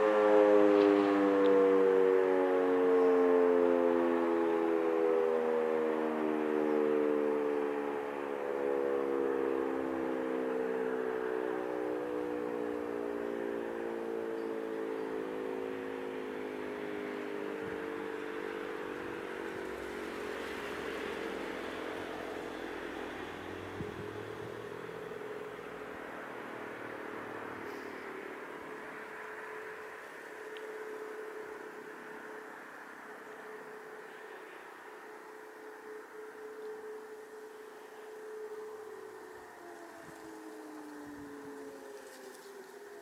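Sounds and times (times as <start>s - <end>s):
air-raid siren winding down: 0.0s - 43.0s
steady outdoor hiss: 7.6s - 43.0s.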